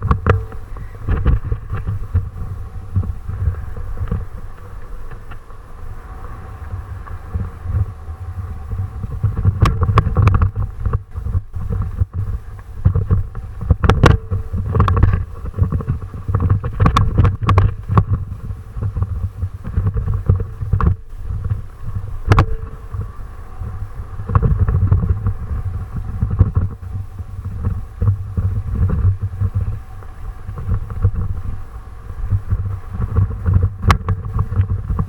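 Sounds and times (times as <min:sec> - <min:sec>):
wind rumbling on microphone: 0:00.0 - 0:35.0.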